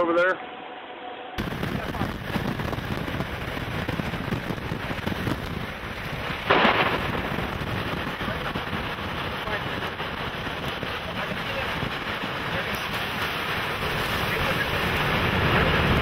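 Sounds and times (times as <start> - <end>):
rain hitting microphone: 1.4 - 16.0
wind hitting microphone: 1.4 - 16.0.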